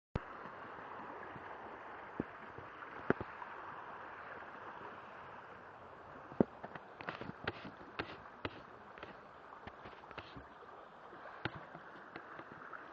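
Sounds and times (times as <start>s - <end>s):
river water running: 0.2s - 12.9s.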